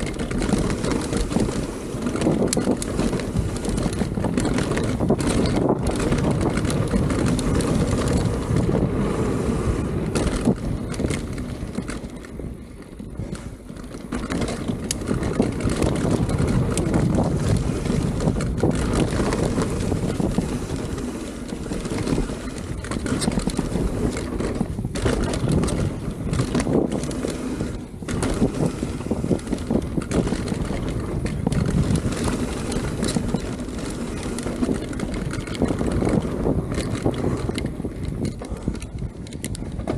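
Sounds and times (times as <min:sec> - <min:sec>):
bike rattling and knocking: 0:00.0 - 0:39.9
tyres on dirt: 0:00.0 - 0:39.9
wind buffeting microphone: 0:00.0 - 0:39.9.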